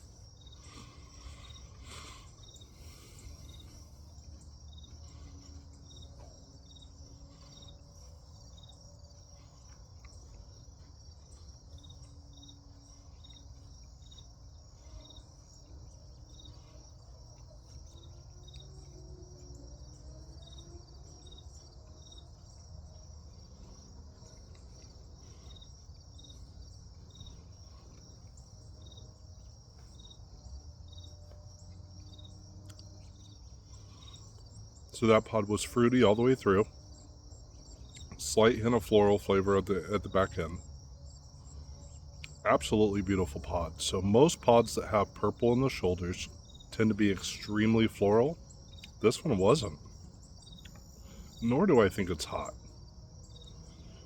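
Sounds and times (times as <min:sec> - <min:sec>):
cricket chirps: 0:00.0 - 0:54.0
crickets trilling: 0:00.0 - 0:54.0.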